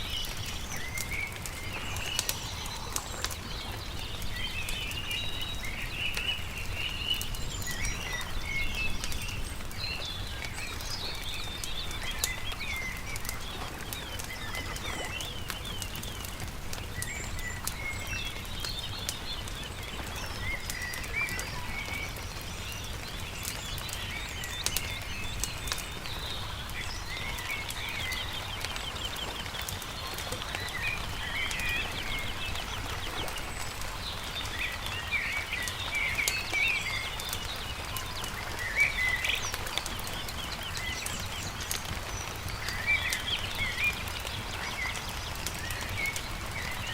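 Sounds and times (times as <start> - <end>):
crackling campfire: 0.0 - 46.9
songbirds chirping: 0.0 - 46.9.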